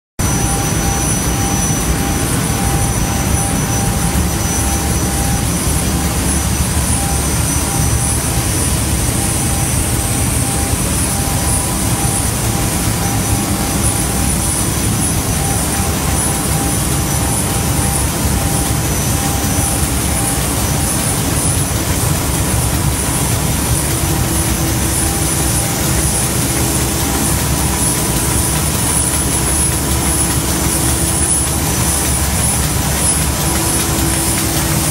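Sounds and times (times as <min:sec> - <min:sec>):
high-pitched machine whines: 0:00.2 - 0:34.9
machine mechanical din: 0:00.2 - 0:34.9.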